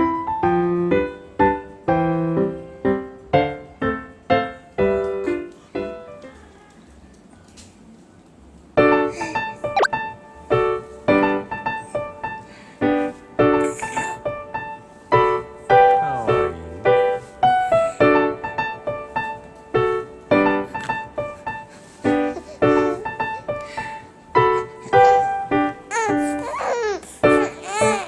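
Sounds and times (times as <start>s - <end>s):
piano notes: 0.0s - 6.8s, 8.8s - 28.0s.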